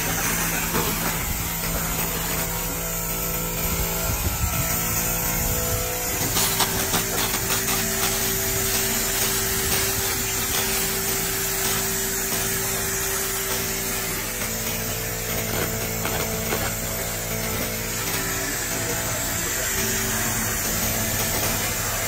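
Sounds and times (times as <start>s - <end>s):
laser cleaning hiss with crackling: 0.0s - 22.0s
machine hum: 0.0s - 22.0s.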